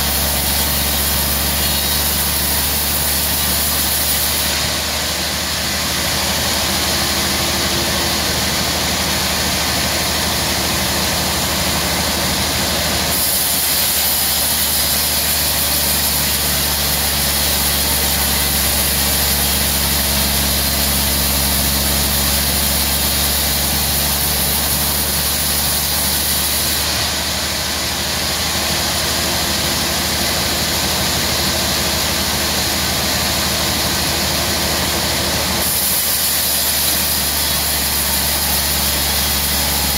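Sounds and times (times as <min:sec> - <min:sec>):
saw blade cutting log: 0:00.0 - 0:27.8, 0:30.4 - 0:39.9
band saw machine drone: 0:00.0 - 0:39.9.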